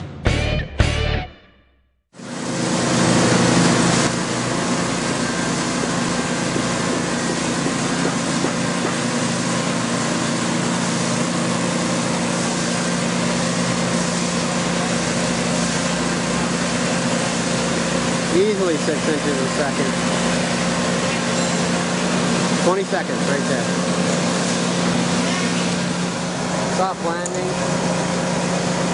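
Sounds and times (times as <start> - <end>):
machine engine running: 2.2 - 28.9.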